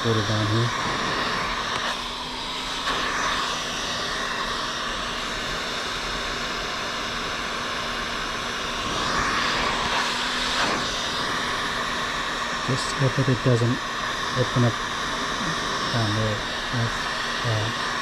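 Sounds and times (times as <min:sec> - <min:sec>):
heat gun blowing air: 0:00.0 - 0:18.0.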